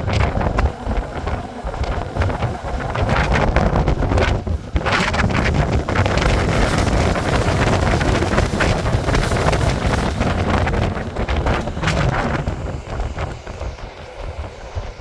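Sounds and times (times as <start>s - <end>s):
train running noise: 0.0s - 15.0s
wind buffeting microphone: 0.0s - 15.0s.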